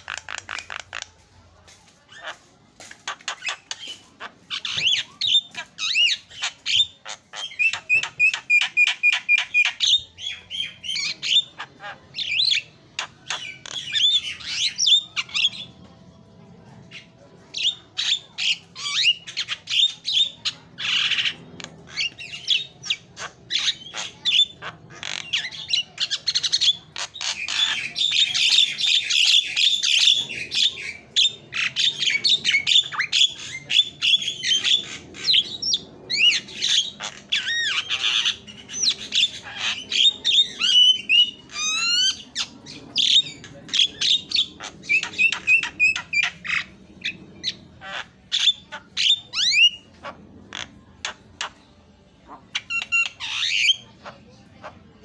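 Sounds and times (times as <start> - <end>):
myna bird singing: 0.0 - 1.3, 2.0 - 55.0.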